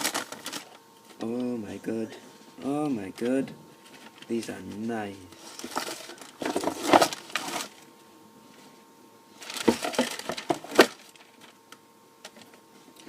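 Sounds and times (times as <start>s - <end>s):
rustling and scraping: 0.0s - 11.6s.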